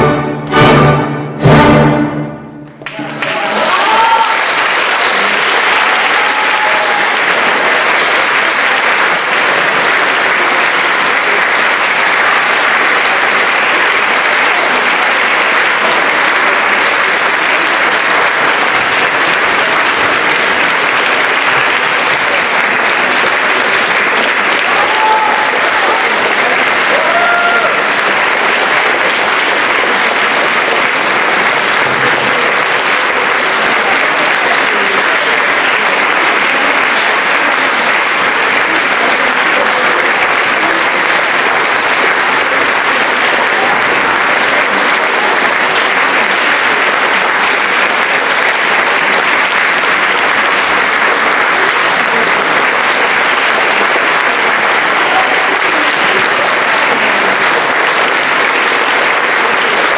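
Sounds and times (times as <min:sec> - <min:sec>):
audience applauding: 0:02.6 - 0:59.9.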